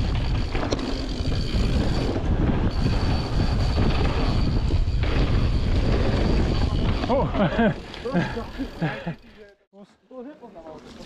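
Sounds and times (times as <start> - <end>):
tyres rumbling on dirt: 0.0 - 9.0
bike chain and frame rattling: 0.0 - 9.6, 10.6 - 11.0.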